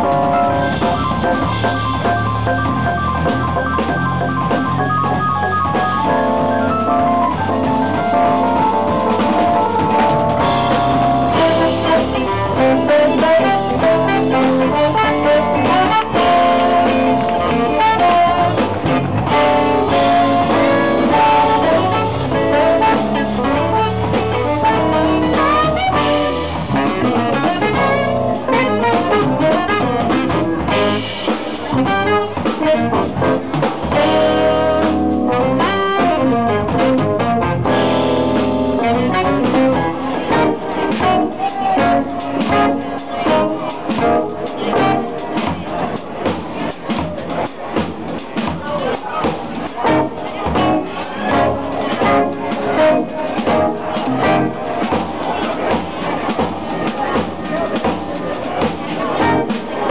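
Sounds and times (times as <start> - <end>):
saxophone lead: 0.0 - 46.0, 49.8 - 59.9
electric guitar: 0.0 - 48.6, 49.2 - 59.9
bass: 0.0 - 59.9
drum kit: 0.0 - 59.9.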